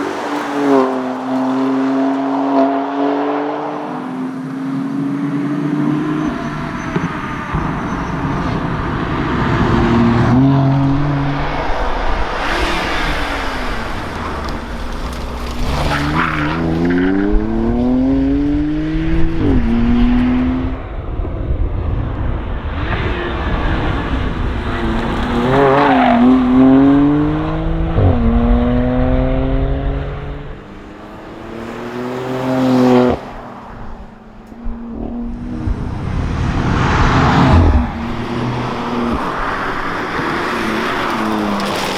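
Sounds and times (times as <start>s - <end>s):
car engine revving: 0.0s - 21.2s, 22.4s - 41.9s.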